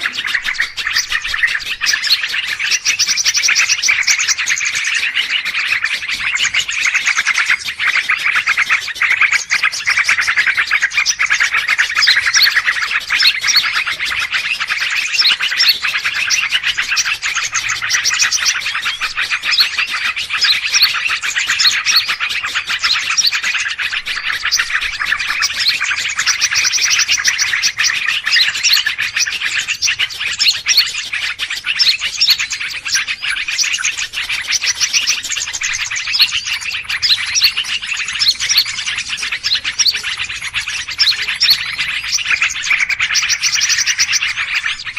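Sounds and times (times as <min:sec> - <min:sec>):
many small birds chirping: 0:00.0 - 0:44.9.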